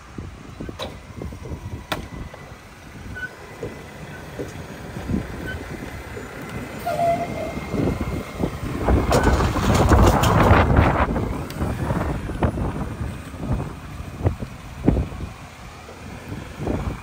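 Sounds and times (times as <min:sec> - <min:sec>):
garbage truck engine rumbling: 0:00.0 - 0:17.0.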